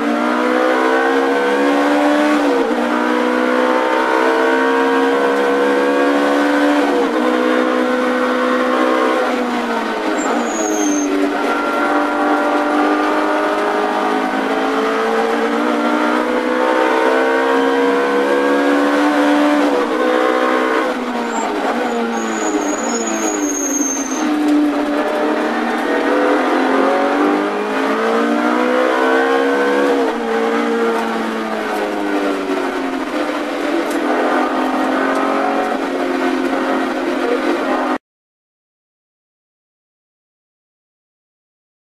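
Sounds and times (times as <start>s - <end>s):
racing car engine revving: 0.0s - 38.0s.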